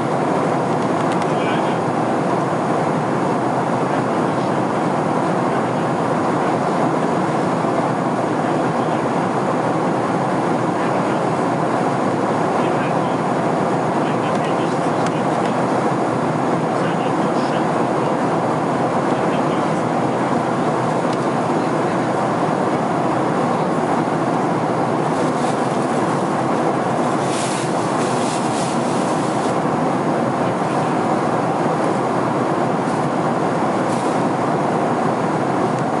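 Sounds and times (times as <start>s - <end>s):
airplane cabin engine rush: 0.0s - 36.0s.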